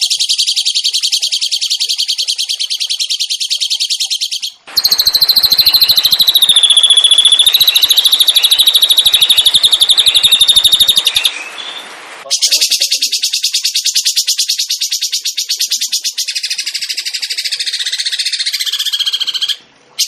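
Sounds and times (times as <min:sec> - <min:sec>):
songbird trilling: 0:00.0 - 0:19.6.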